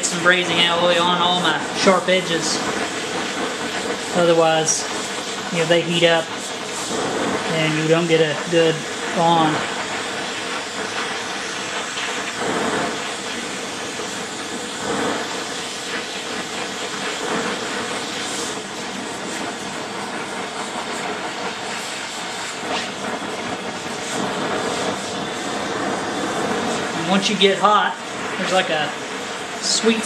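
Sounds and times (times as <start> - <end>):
torch flame hissing: 0.0 - 30.0.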